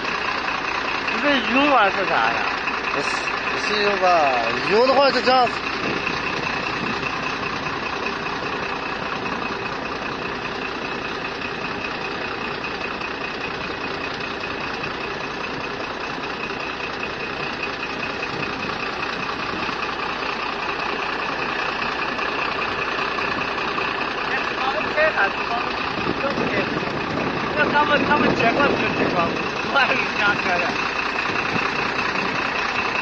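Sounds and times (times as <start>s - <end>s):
vehicle engine and road noise: 0.0s - 33.0s.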